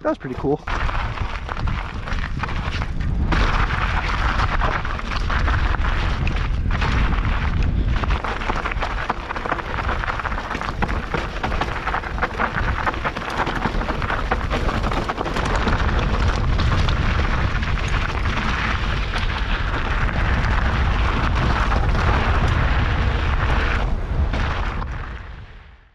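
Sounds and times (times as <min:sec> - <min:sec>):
tyres crunching over gravel: 0:00.0 - 0:25.2
wind rumbling on microphone: 0:00.0 - 0:25.9
bike rattling: 0:00.2 - 0:25.3.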